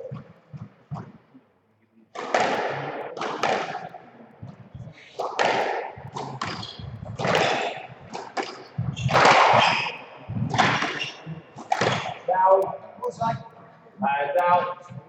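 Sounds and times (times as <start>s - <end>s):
squash ball hitting rackets and walls: 0.0s - 1.2s, 2.2s - 13.5s.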